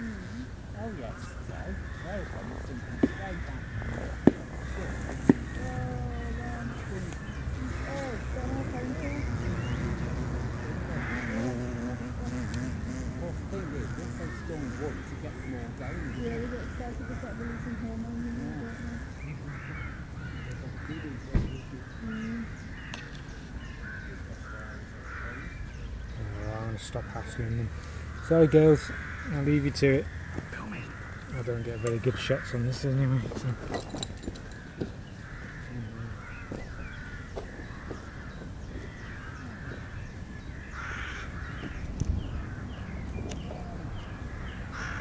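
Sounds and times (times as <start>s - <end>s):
crows cawing: 0.0s - 25.8s, 26.9s - 45.0s
small birds chirping: 0.0s - 45.0s.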